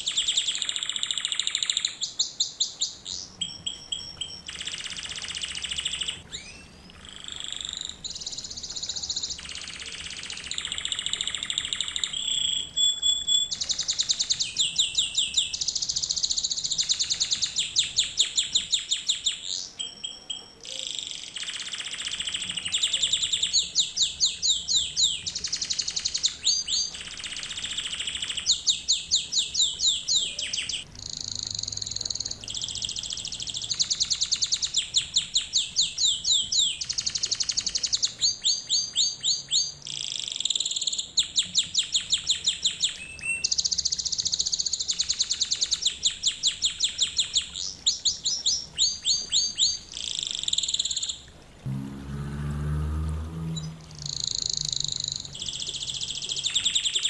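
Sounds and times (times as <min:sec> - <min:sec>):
canary singing fast trills: 0:00.0 - 0:51.3, 0:53.5 - 0:57.0.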